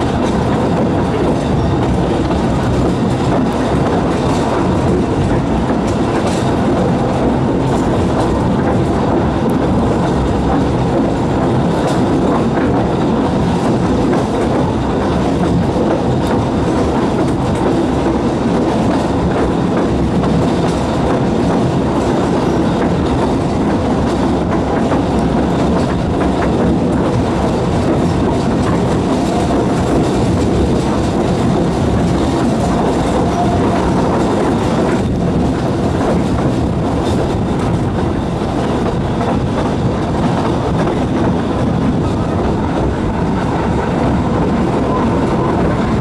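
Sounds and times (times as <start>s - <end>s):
train carriages rumbling on rails: 0.0s - 46.0s
wheels clicking over track: 0.0s - 46.0s.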